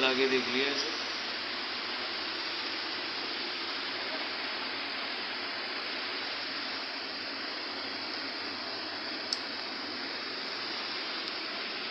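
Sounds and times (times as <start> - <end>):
treadmill motor and belt hiss: 0.0 - 11.9.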